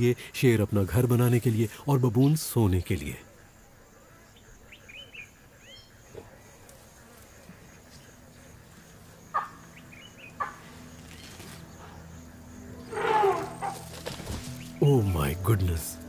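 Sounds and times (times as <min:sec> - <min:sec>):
insect buzz: 0:01.2 - 0:16.0.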